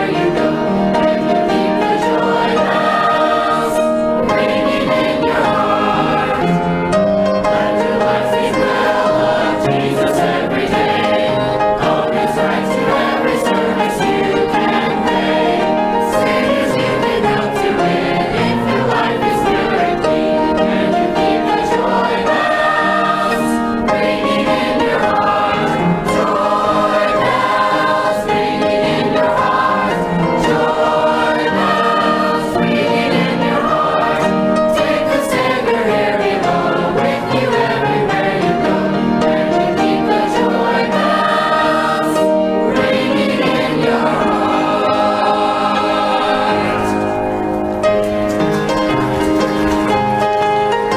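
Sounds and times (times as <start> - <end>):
choir singing in harmony: 0.0 - 50.9.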